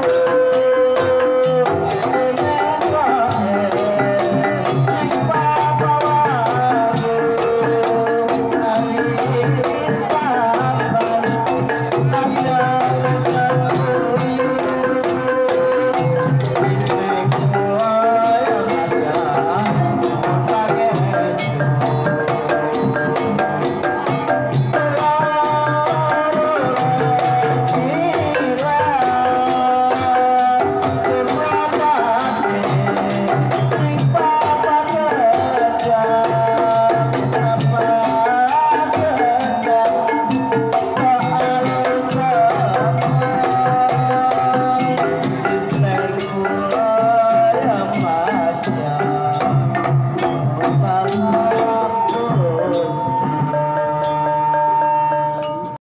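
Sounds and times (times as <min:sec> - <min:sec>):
bronze metallophones: 0:00.0 - 0:55.8
hand drum strokes: 0:00.0 - 0:55.8.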